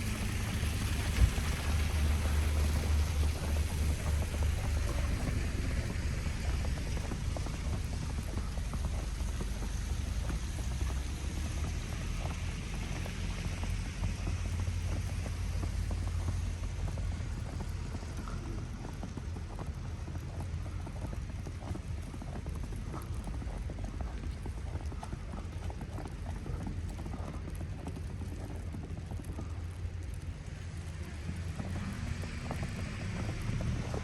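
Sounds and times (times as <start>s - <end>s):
wind rumble on microphone: 0.0s - 34.0s.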